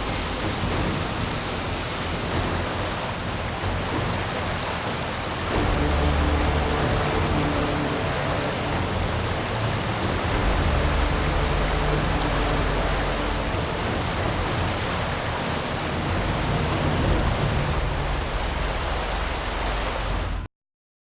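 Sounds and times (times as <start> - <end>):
rushing water: 0.0 - 20.5.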